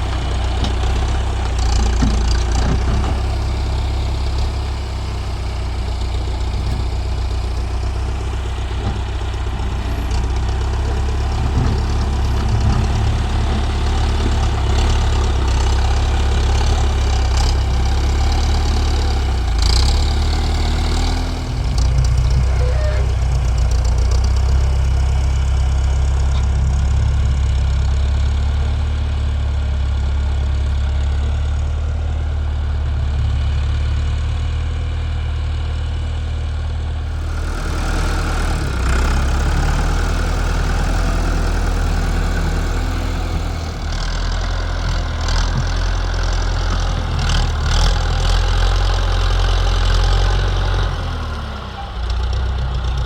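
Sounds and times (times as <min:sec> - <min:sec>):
tractor engine rumbling: 0:00.0 - 0:53.0.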